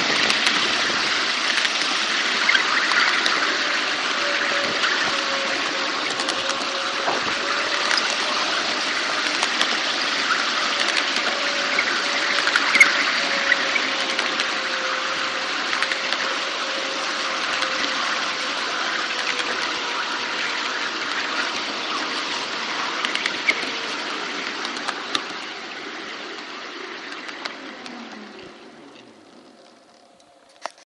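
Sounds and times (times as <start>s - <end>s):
faint motor whine: 0.0s - 30.8s
wheels rushing on rail: 0.0s - 30.8s.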